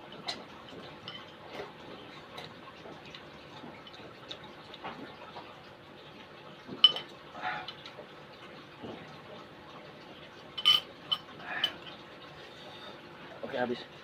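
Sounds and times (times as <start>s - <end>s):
small clicks of eating: 0.0s - 12.4s.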